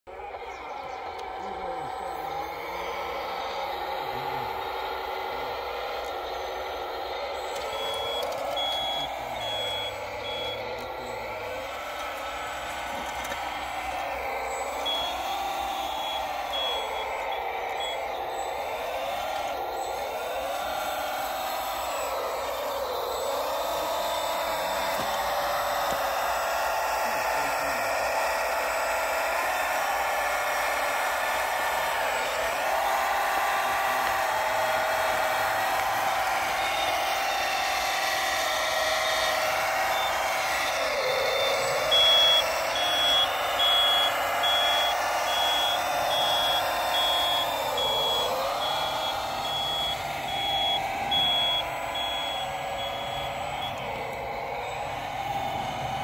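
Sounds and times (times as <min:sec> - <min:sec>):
motor and hydraulic pump whine: 0:00.1 - 0:56.0
reversing beeper: 0:00.1 - 0:56.0.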